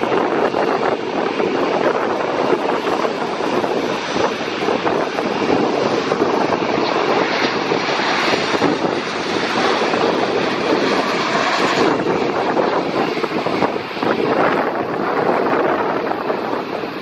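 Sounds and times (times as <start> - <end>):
jet engine rushing noise: 0.0 - 17.0.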